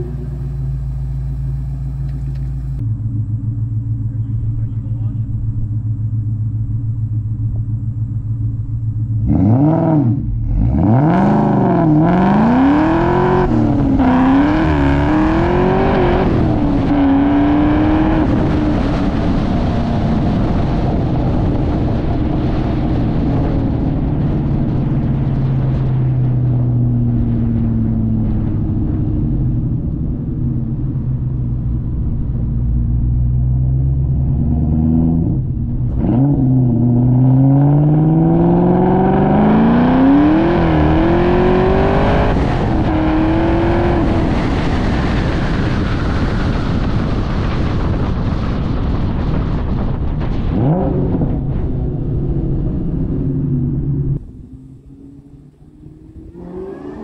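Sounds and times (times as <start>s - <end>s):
car engine revving: 0.0s - 48.2s, 49.7s - 57.0s.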